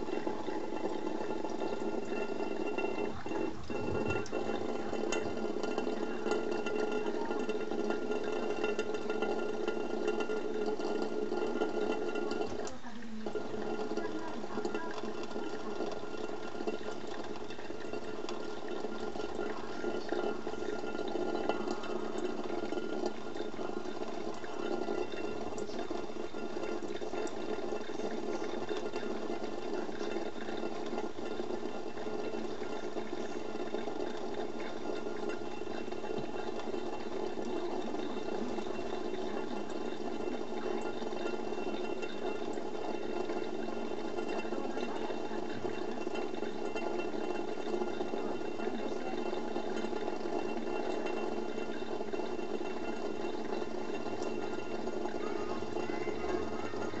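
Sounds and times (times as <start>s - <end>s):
tap water running onto sink drain: 0.0s - 57.0s.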